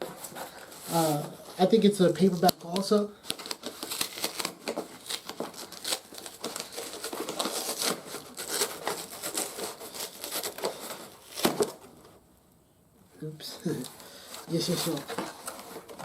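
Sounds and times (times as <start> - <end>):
comic book pages rustling: 0.0 - 12.2, 13.4 - 16.0.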